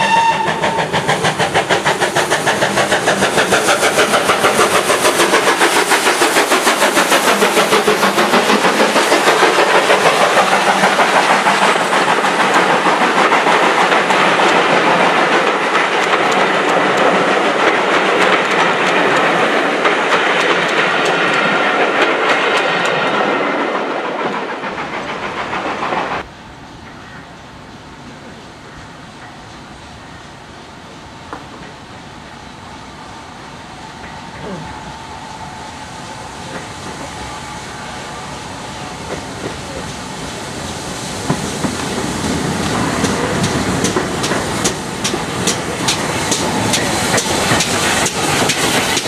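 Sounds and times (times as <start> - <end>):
train wheels clickety-clack: 0.0 - 30.4, 31.2 - 32.4, 34.0 - 34.8, 35.4 - 49.0
steam locomotive exhaust beating: 0.0 - 49.0.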